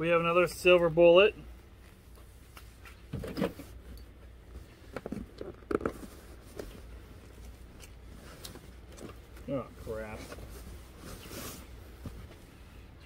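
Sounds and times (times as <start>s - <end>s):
goods rustling in cardboard box: 1.6s - 13.0s.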